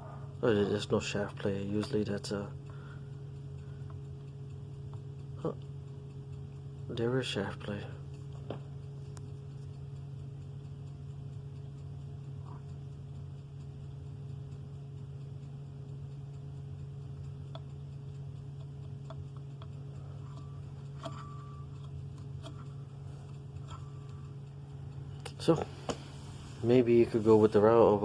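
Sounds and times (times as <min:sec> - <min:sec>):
steady low hum: 0:00.0 - 0:28.0
light clicks of turbo shaft: 0:00.6 - 0:28.0.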